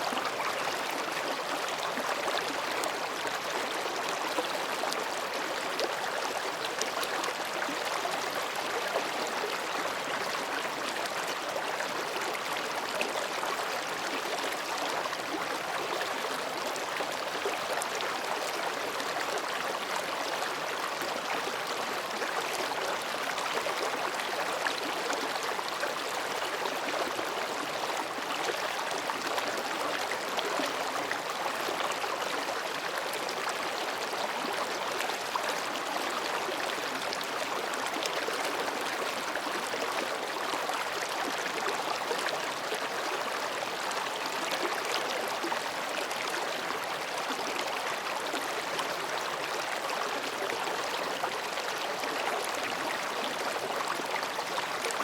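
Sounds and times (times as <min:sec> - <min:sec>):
stream babbling between rocks: 0:00.0 - 0:55.0.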